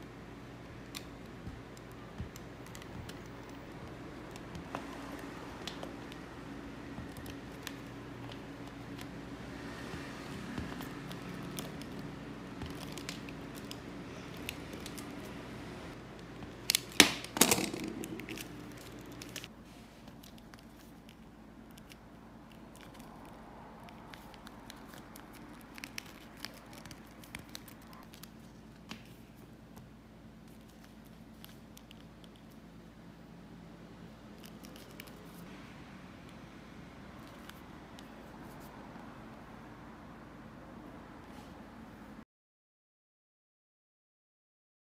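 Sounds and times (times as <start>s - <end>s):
steady background hum: 0.0s - 42.2s.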